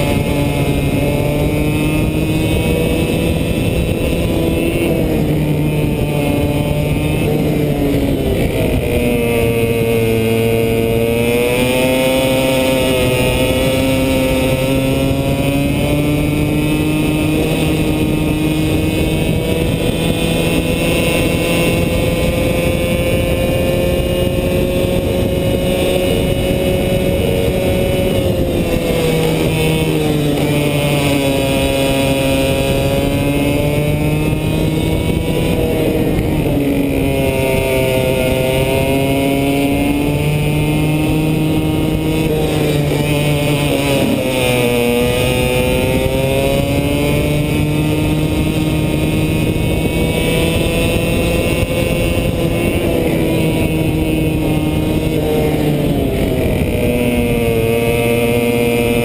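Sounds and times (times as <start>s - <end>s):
kart engine running hard: 0.0s - 59.0s
road noise: 0.0s - 59.0s
rushing wind: 0.0s - 59.0s.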